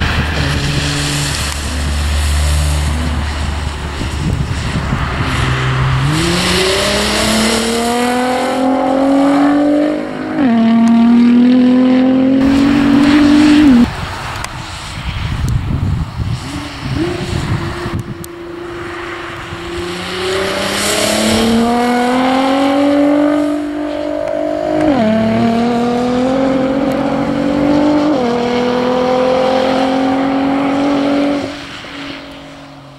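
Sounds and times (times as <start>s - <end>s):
car engine accelerating hard: 0.0s - 14.2s, 16.4s - 32.1s
car passing close: 0.0s - 32.9s.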